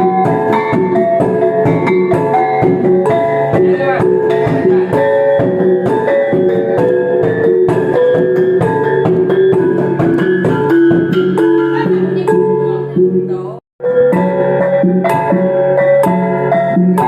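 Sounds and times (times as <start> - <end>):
steady percussive beat: 0.0 - 17.0.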